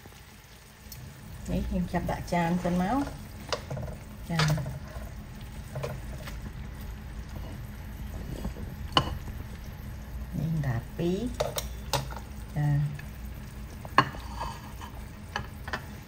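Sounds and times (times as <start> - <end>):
sauce sizzling in pan: 0.0 - 16.0.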